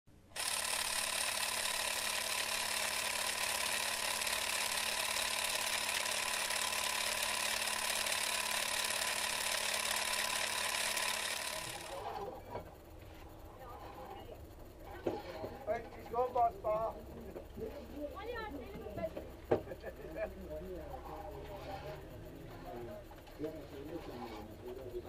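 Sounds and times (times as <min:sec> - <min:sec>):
film projector clatter: 0:00.2 - 0:25.0.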